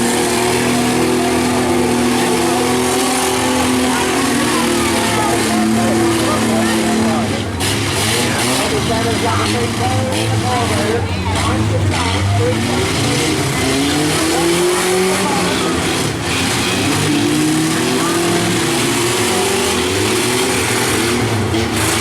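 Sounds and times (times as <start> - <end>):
engines revving hard: 0.0 - 22.0.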